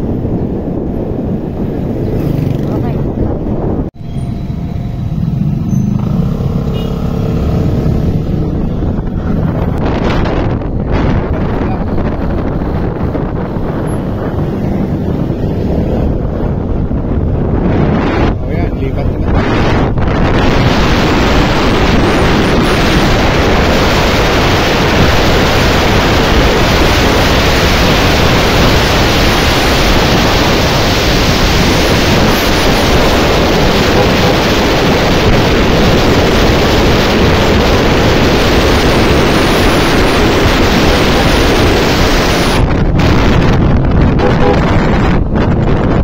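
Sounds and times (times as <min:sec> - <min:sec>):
wind rush on microphone: 0:00.0 - 0:04.3, 0:05.0 - 0:46.0.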